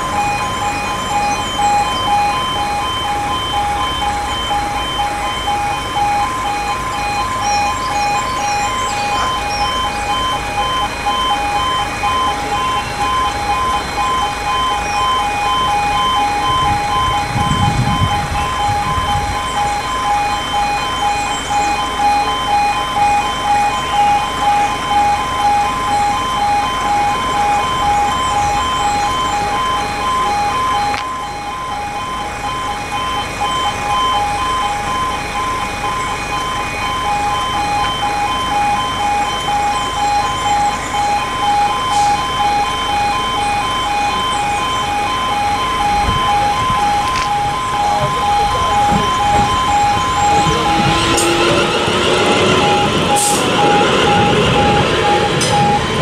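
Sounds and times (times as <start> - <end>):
two-tone electronic crossing alarm: 0.0 - 56.0.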